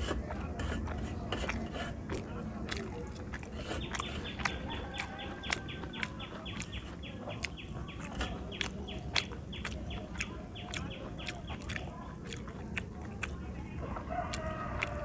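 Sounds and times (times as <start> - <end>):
wet chewing and smacking: 0.0 - 15.0.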